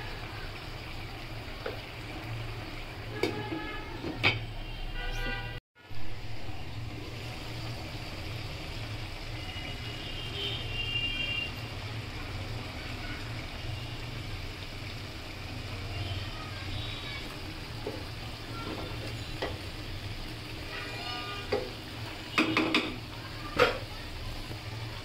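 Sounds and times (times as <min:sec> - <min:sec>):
curry simmering in a wok: 0:00.0 - 0:25.0.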